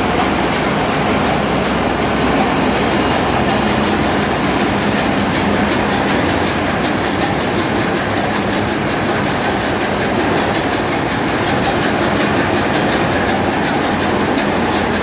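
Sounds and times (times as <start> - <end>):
engine room machinery pulsing: 0.0 - 15.0.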